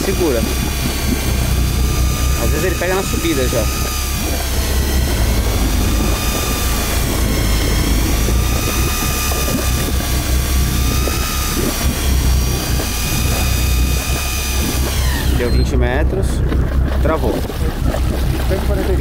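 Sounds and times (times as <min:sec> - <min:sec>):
fishing reel motor whine: 0:00.0 - 0:19.0
low rumble: 0:00.0 - 0:19.0.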